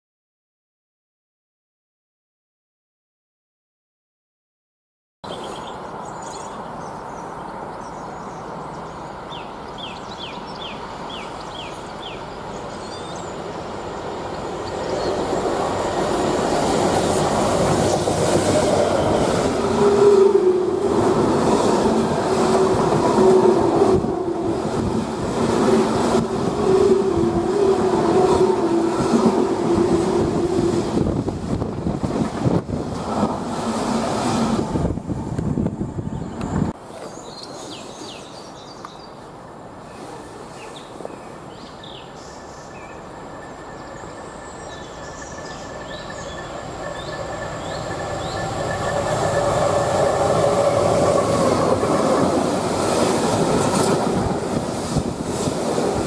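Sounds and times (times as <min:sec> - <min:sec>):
distant train rumble: 0:05.7 - 0:36.8, 0:39.2 - 0:56.0.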